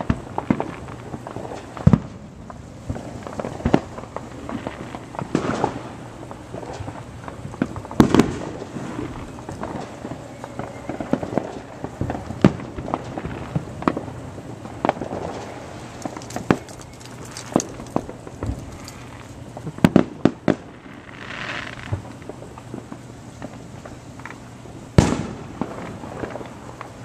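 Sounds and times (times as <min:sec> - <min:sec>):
fireworks bangs and pops: 0:00.0 - 0:27.0.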